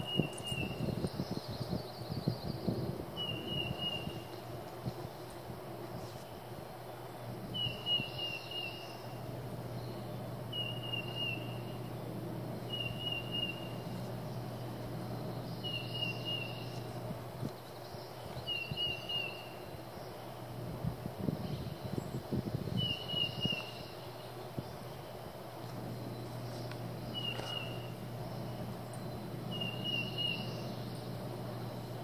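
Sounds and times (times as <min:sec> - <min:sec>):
outdoor background noise: 0:00.0 - 0:32.0
steady low hum: 0:00.0 - 0:32.0.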